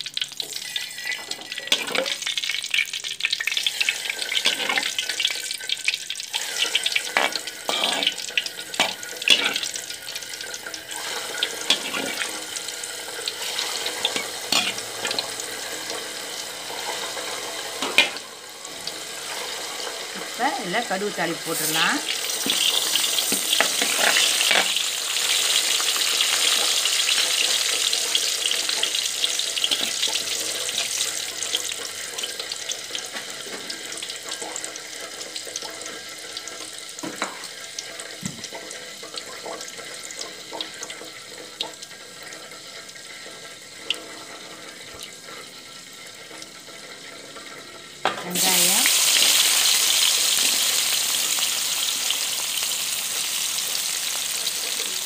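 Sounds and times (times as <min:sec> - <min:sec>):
onions sizzling in oil: 0:00.0 - 0:55.0
seeds sizzling in hot oil: 0:00.0 - 0:55.0.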